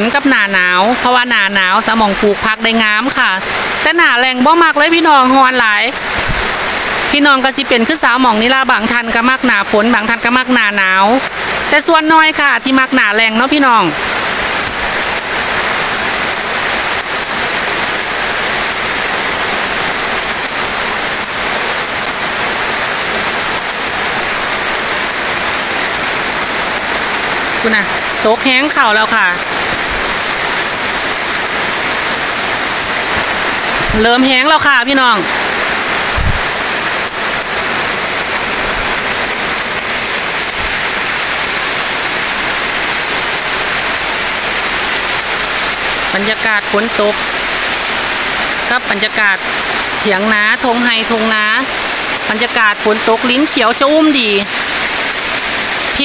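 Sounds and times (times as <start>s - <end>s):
rain falling on grass: 0.0s - 56.0s.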